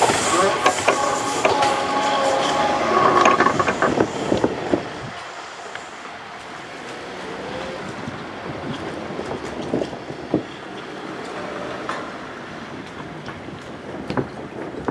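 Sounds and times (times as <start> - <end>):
train wheels clattering over rail joints: 0.0 - 14.9.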